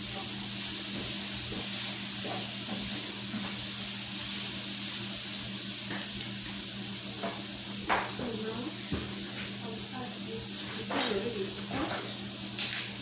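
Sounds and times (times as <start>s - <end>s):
stove hiss and hum: 0.0s - 13.0s.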